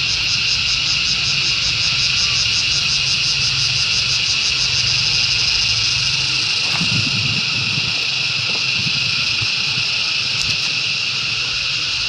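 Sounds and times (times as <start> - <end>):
pulsing insect chorus: 0.0 - 12.0.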